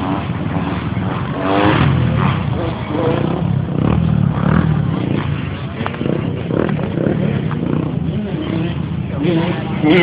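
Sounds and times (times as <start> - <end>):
dirt bike engines running: 0.0 - 10.0.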